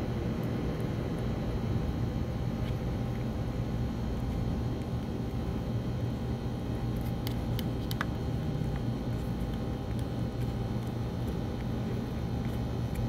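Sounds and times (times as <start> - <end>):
kitten chewing: 0.0 - 13.0
steady low hum: 0.0 - 13.0.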